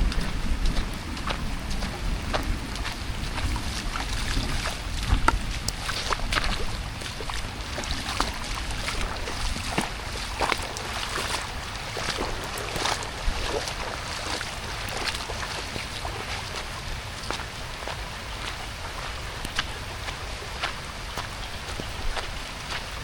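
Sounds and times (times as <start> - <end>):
rain drips and splashes: 0.0 - 23.0
wind rumbling on microphone: 0.0 - 23.0.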